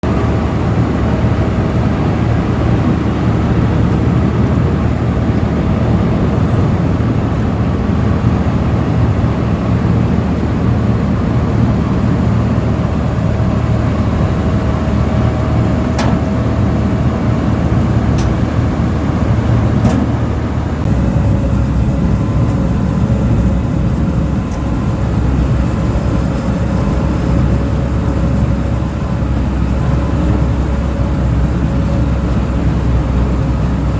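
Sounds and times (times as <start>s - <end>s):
road planer rumbling: 0.0s - 33.9s.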